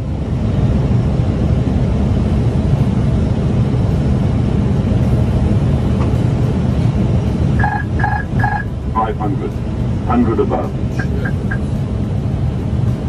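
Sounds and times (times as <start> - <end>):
aircraft airflow and engines rushing: 0.0 - 13.0.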